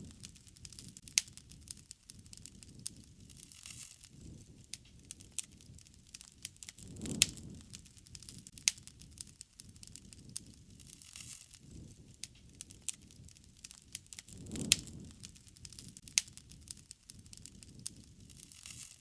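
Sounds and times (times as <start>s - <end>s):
campfire crackling and popping: 0.0s - 19.0s
low rumble of flames: 0.0s - 19.0s.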